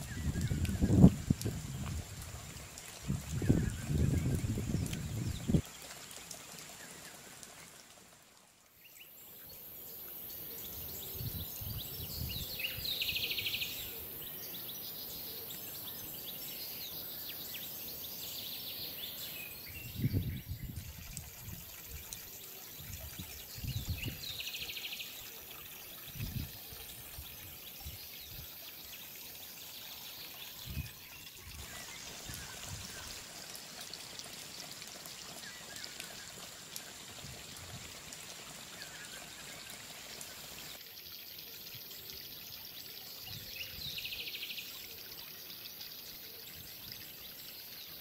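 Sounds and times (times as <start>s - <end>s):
stream trickling over rocks: 0.0s - 48.0s.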